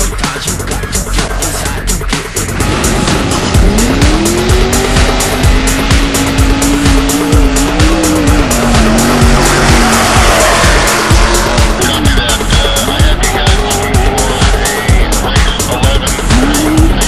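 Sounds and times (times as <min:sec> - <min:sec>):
race vehicle engines revving: 0:00.8 - 0:17.0.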